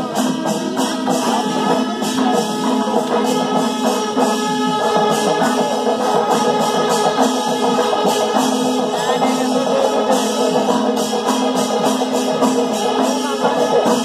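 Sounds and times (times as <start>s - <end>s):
drums: 0.0s - 14.0s
hand cymbals clashing: 0.0s - 14.0s.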